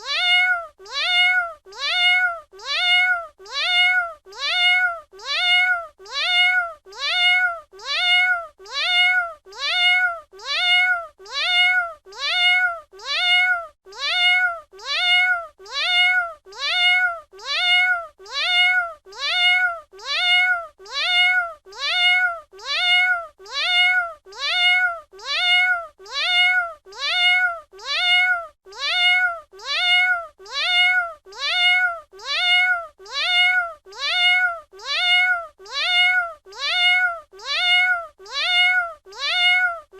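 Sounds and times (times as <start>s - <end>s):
cat meowing: 0.0s - 39.9s.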